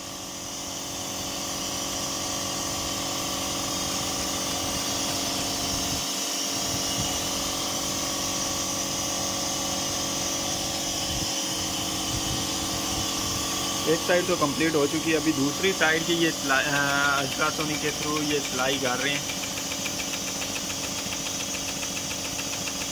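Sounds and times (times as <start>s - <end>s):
ultrasonic welding machine humming: 0.0s - 22.9s.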